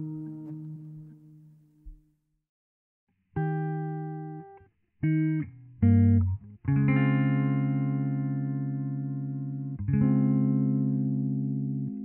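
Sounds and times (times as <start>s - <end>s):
guitar chords: 0.0s - 2.1s, 3.4s - 12.0s.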